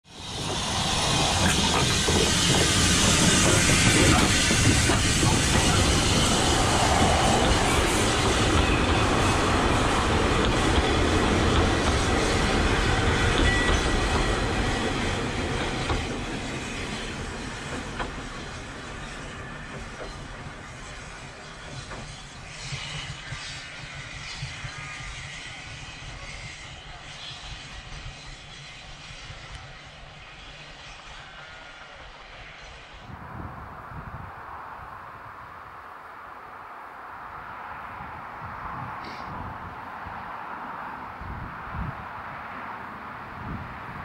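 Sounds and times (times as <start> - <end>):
steam train running past: 0.0 - 44.0.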